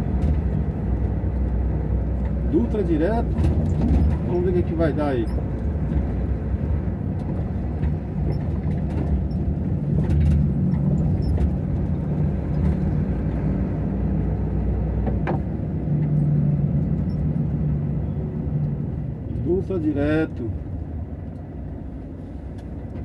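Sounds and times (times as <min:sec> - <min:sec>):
road noise: 0:00.0 - 0:23.0
truck diesel engine running: 0:00.0 - 0:23.0.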